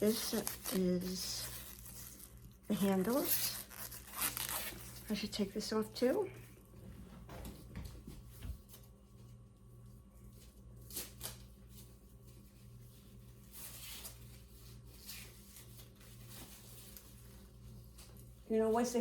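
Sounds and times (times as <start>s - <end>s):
wrapping rustling and crinkling: 0.0s - 6.8s, 8.2s - 19.0s.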